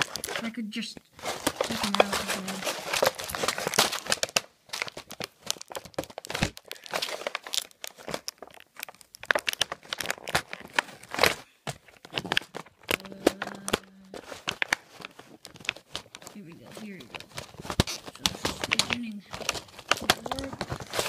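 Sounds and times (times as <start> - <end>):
plastic and cardboard packaging crinkling: 0.0 - 21.0.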